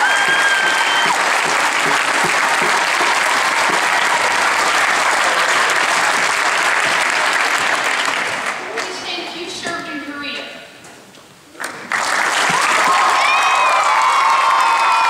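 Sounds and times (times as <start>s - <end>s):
audience applauding: 0.0s - 9.1s, 11.6s - 15.0s.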